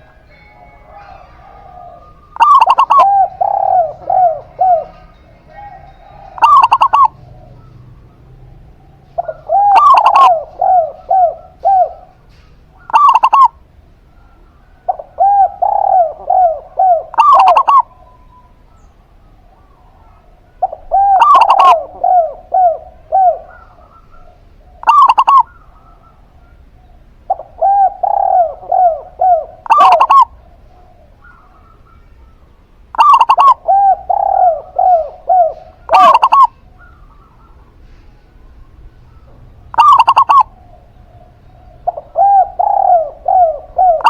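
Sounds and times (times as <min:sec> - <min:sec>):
doves cooing: 0:00.0 - 0:44.0.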